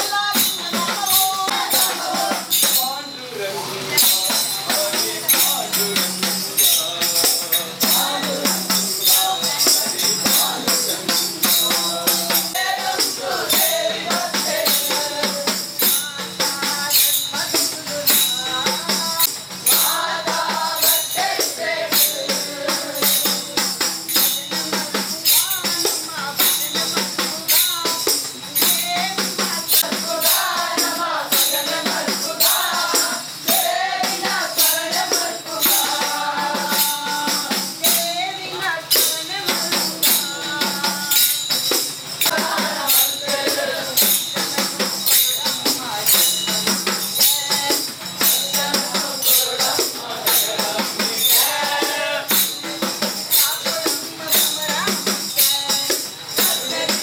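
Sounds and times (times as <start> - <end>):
group singing: 0.0 - 57.0
tambourine jingles: 0.0 - 57.0.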